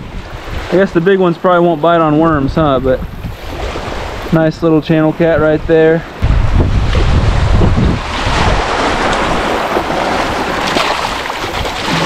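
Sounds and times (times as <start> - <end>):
wind buffeting microphone: 0.0 - 1.2, 1.8 - 12.0
rush of wind: 0.0 - 12.0
small waves washing on beach: 0.0 - 12.0.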